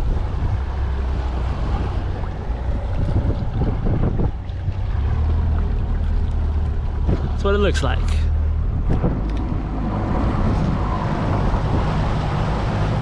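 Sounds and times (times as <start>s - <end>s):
boat motor running: 0.0s - 13.0s
water rushing past hull: 0.0s - 13.0s
wind buffeting microphone: 0.0s - 13.0s.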